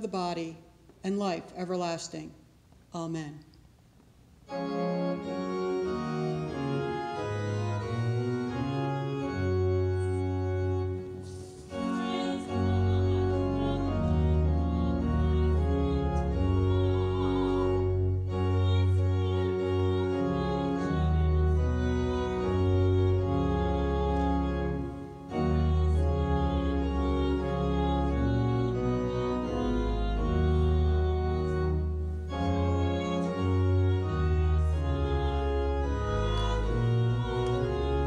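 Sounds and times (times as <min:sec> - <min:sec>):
organ playing held chords: 0:04.4 - 0:38.0.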